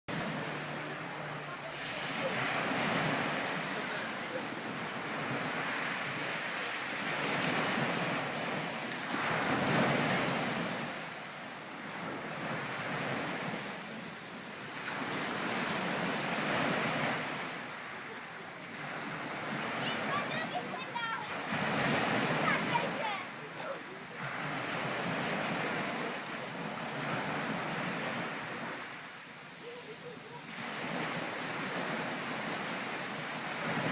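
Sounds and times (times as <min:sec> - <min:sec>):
sea water washing: 0:00.1 - 0:33.9.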